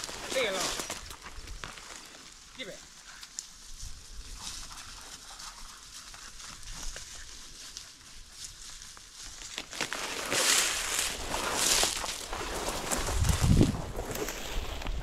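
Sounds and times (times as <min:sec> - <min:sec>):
dry leaves crackling underfoot: 0:00.0 - 0:15.0.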